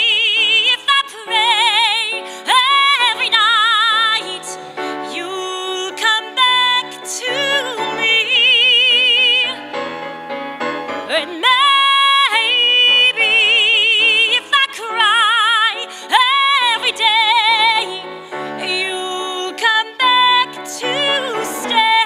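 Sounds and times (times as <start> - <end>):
woman singing a ballad: 0.0 - 9.8, 11.0 - 22.0
grand piano: 0.0 - 22.0.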